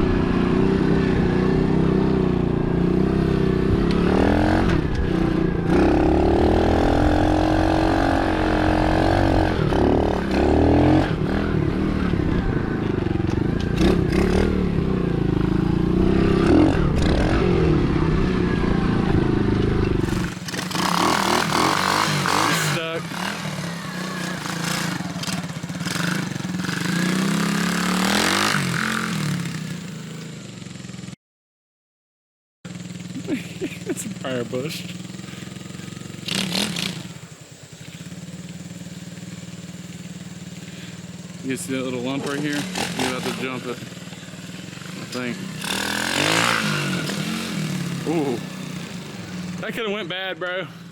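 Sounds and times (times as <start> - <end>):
motorbike engine revving: 0.0 - 31.2, 32.7 - 50.9.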